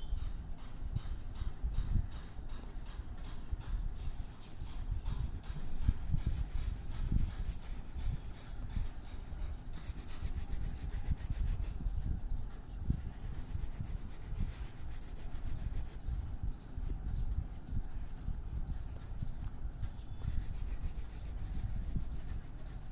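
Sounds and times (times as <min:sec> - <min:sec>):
drawing strokes on paper: 0:00.4 - 0:22.9.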